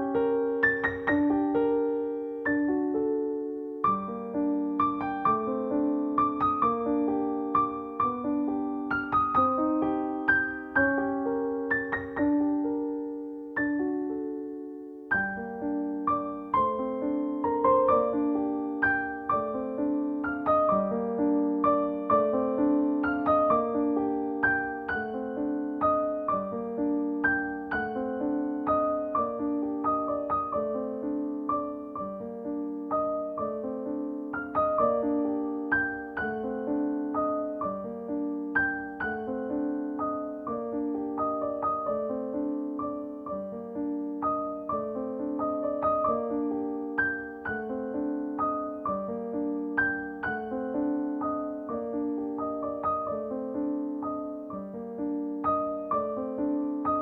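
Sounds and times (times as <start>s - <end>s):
soft piano music: 0.0s - 57.0s.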